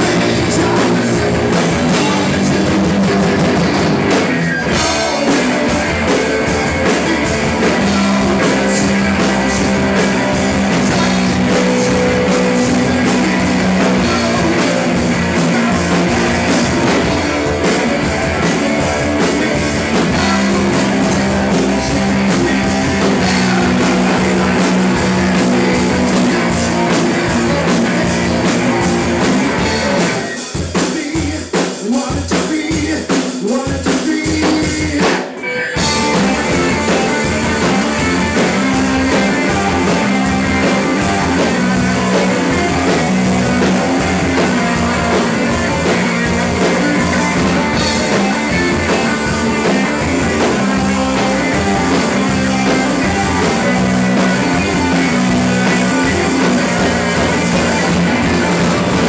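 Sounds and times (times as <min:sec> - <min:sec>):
electric guitars strumming chords: 0:00.0 - 0:30.6, 0:35.2 - 0:59.0
driving drum kit: 0:00.0 - 0:59.0
live rock band playing: 0:00.0 - 0:59.0.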